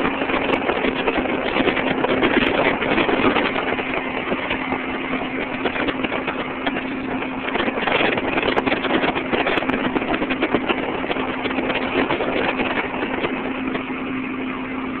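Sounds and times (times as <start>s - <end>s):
engine droning: 0.0s - 15.0s
rush of air noise: 0.0s - 15.0s.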